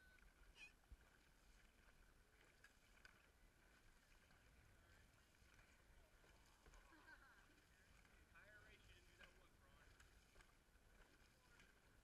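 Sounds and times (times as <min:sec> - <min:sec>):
paddles splashing water: 0:00.0 - 0:12.0.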